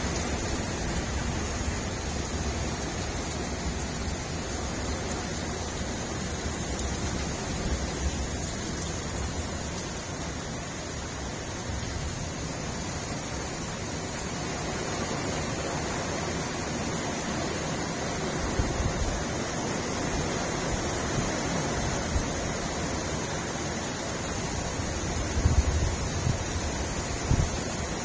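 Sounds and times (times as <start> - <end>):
heavy rain pouring: 0.0 - 28.0
wind gusts: 0.0 - 28.0.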